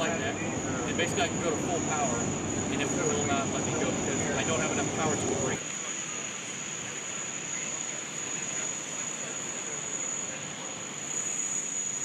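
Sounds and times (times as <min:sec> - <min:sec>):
airfield background noise: 0:00.0 - 0:12.0
high-pitched whine: 0:00.0 - 0:12.0.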